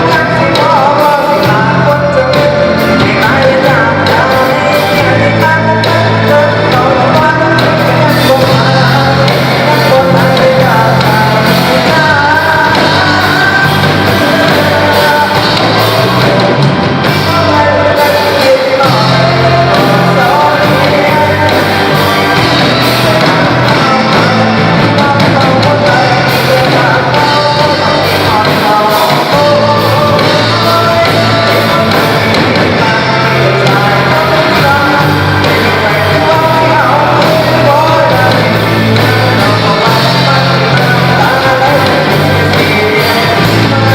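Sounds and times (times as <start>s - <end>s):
band playing loud rock music: 0.0s - 43.9s
person singing: 0.0s - 43.9s.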